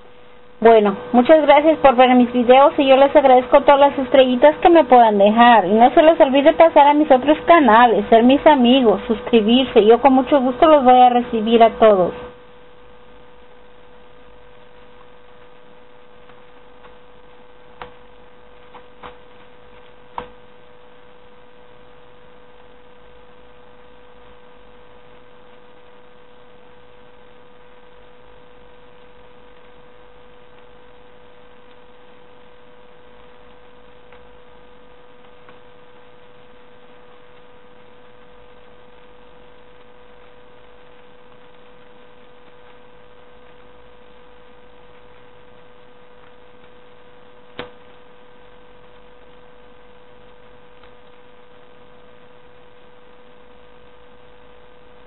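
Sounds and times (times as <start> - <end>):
electrical hum with whine: 0.0 - 55.0.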